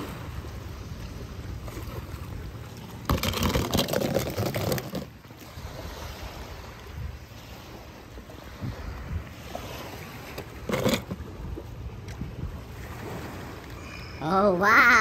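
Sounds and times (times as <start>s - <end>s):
moving water rumble: 0.0s - 15.0s.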